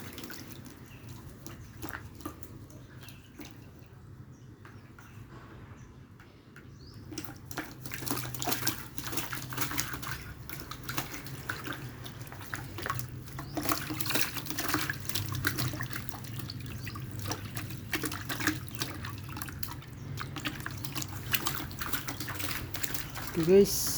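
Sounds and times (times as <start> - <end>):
water splashing and dripping: 0.0 - 4.0, 6.8 - 23.9.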